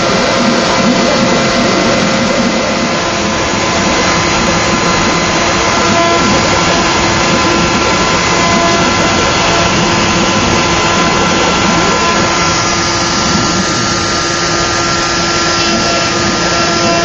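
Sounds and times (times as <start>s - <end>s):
router spindle whine: 0.0s - 17.0s
wood cutting rush: 0.0s - 17.0s.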